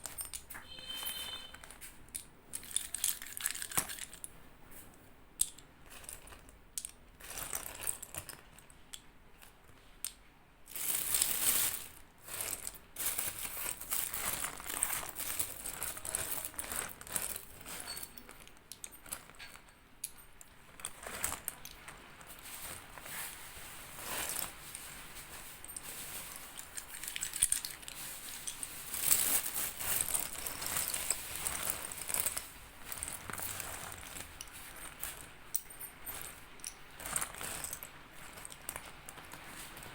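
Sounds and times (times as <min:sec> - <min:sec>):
slate pencils crunching and snapping: 0:01.5 - 0:04.3, 0:05.4 - 0:22.9, 0:25.6 - 0:39.9.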